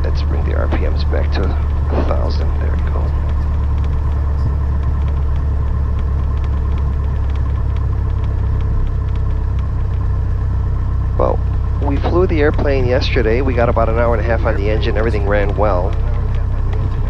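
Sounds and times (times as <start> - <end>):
aircraft engine idling: 0.0 - 17.0.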